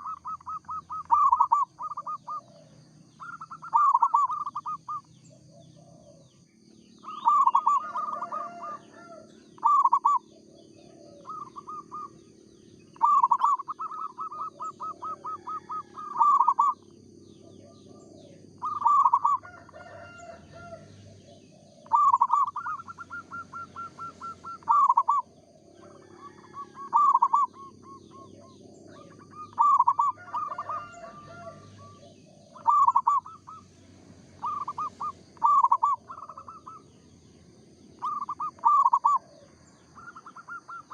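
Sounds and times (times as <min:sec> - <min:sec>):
dove cooing: 0:00.0 - 0:37.2, 0:37.8 - 0:40.9
small birds chirping: 0:00.0 - 0:40.9.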